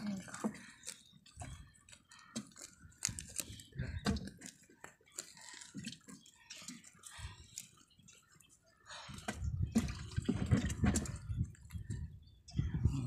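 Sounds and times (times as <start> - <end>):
water stirred by hand: 0.0 - 12.0.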